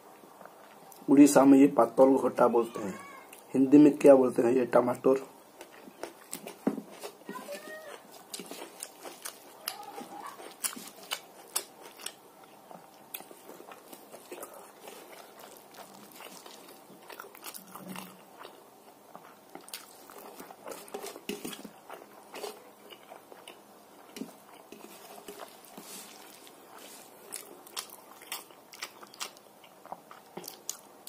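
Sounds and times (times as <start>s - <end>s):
man chewing food: 0.0s - 1.1s, 5.2s - 31.0s.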